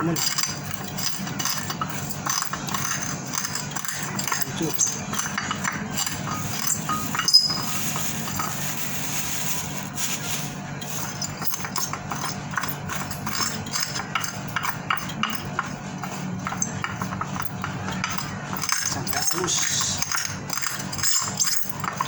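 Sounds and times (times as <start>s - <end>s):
pestle pounding in a mortar: 0.0s - 22.0s.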